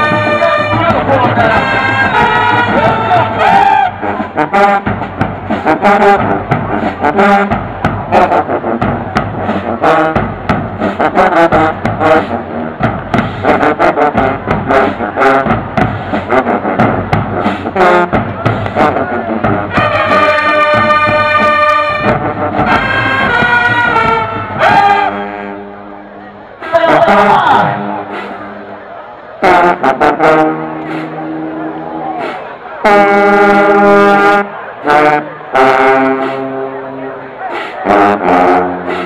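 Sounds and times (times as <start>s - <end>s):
marching band brass chords: 0.0s - 39.0s.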